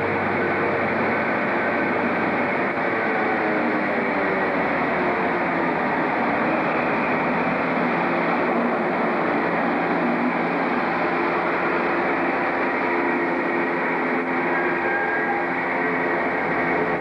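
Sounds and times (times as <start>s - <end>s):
diesel train engine: 0.0s - 17.0s
train coaches running noise: 0.0s - 17.0s.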